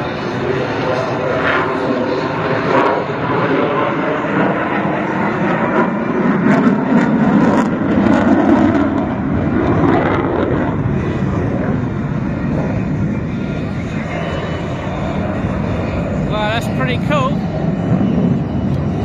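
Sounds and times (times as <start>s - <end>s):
jet fighter roar overhead: 0.0s - 19.0s.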